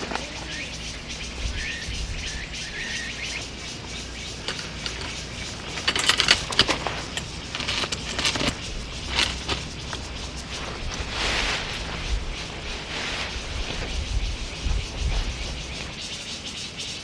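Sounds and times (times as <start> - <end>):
sharp clicking and rustling: 0.0 - 16.0
bird chirping: 0.0 - 17.0.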